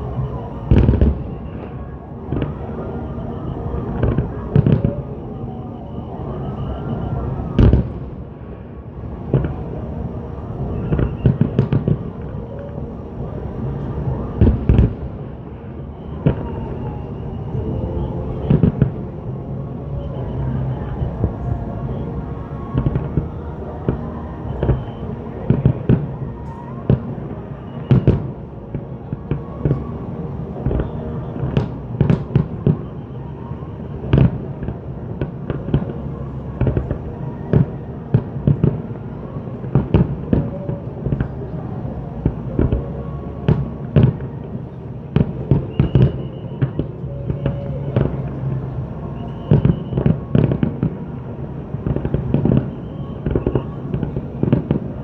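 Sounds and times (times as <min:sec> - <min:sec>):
background music: 0:00.0 - 0:55.0
fireworks bursting with bangs: 0:00.0 - 0:55.0.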